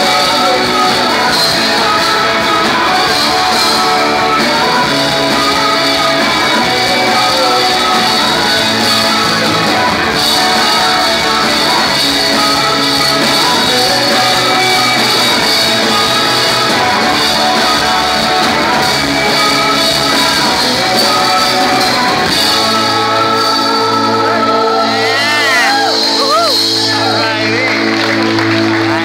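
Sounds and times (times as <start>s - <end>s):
drums: 0.0s - 29.0s
electric guitars: 0.0s - 29.0s
person singing: 0.0s - 29.0s.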